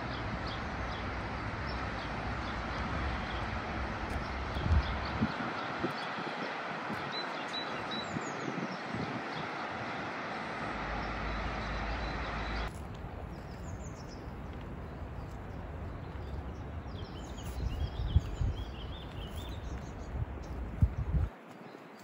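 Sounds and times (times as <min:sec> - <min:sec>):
birds chirping: 0:00.0 - 0:22.0
steady rushing noise: 0:00.0 - 0:22.0.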